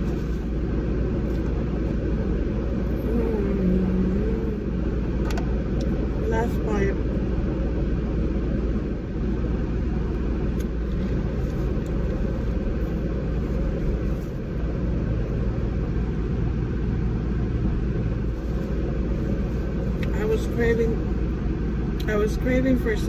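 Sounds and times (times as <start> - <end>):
air conditioning blower hiss: 0.0 - 23.0
car engine idling: 0.0 - 23.0.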